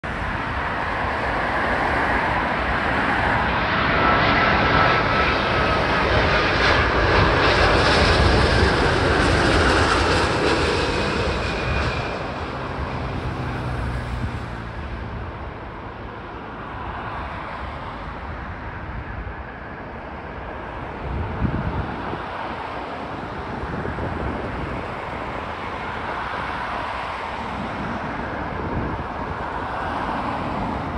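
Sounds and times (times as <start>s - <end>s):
jet engines passing overhead: 0.0s - 30.9s.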